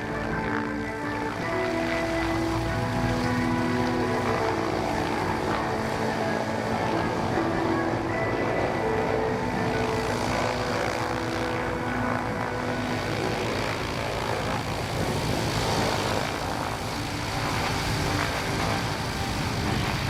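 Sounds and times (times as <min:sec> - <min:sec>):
propeller drone: 0:00.0 - 0:20.0
radial aircraft engines rumbling: 0:00.0 - 0:20.0.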